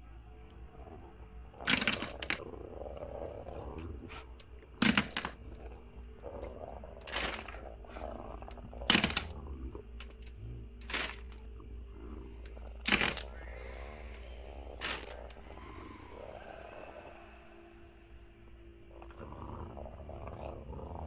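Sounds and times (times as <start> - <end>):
low drone with high whine: 0.0 - 21.0.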